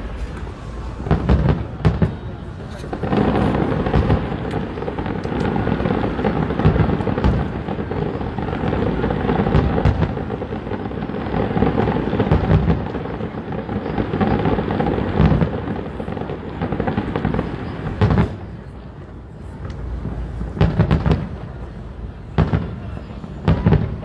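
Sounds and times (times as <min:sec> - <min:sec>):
fireworks bangs and crackles: 0:00.0 - 0:24.0
rumble of fireworks booms: 0:00.0 - 0:24.0.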